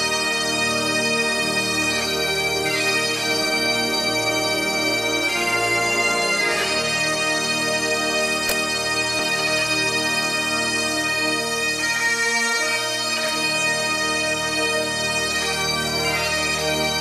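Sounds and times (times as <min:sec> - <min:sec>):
bagpipes playing slow melody: 0:00.0 - 0:17.0.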